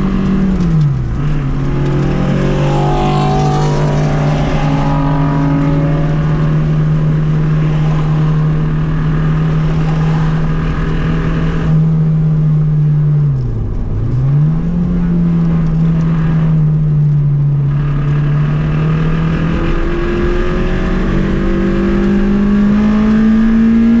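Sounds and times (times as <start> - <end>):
car engine running hard: 0.0 - 24.0.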